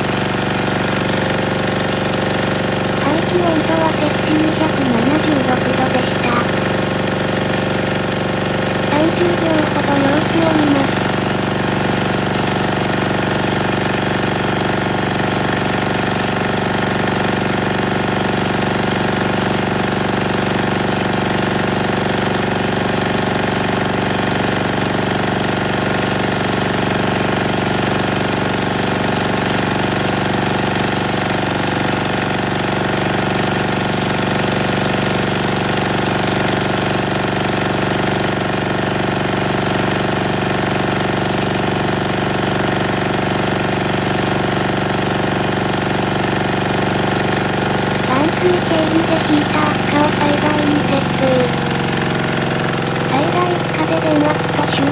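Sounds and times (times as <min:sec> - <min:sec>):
diesel generator running: 0:00.0 - 0:54.9.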